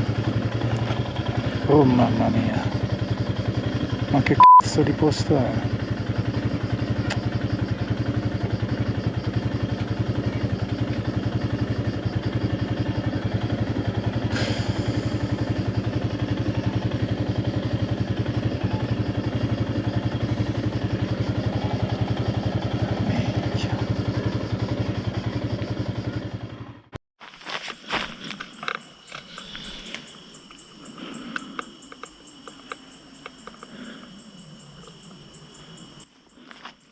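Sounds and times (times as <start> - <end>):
motorcycle engine running steadily: 0.0 - 27.0, 27.9 - 36.8.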